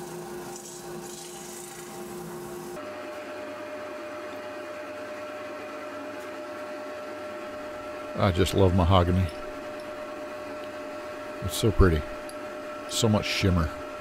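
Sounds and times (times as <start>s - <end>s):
wood lathe motor whine: 0.0s - 14.0s.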